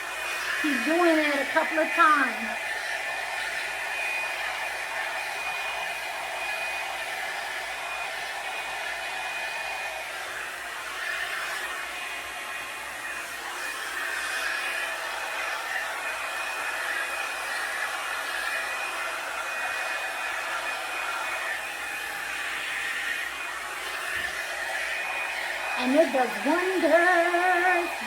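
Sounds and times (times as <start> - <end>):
hair dryer blowing with high whine: 0.0 - 28.0.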